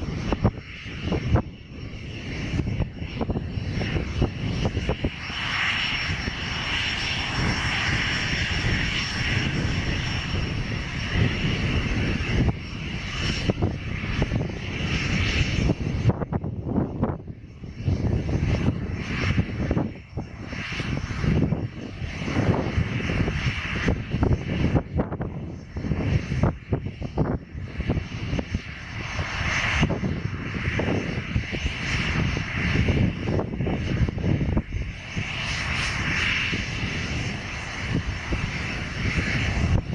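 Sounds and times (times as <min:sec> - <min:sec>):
aircraft engines running: 0:00.0 - 0:39.9
wind buffeting microphone: 0:00.0 - 0:39.9.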